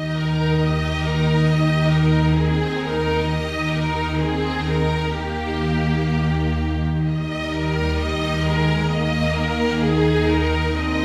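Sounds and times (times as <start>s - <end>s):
slow orchestral music: 0.0s - 11.0s.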